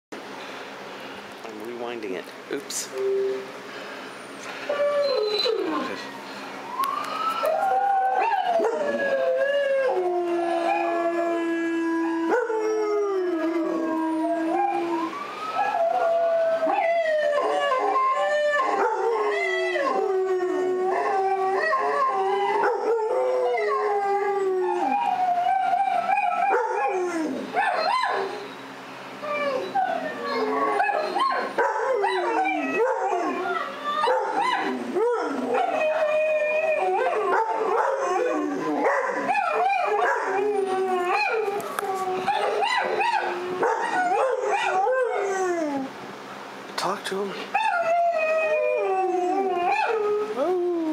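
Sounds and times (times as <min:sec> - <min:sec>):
dogs howling: 0:04.7 - 0:46.2, 0:47.5 - 0:50.9.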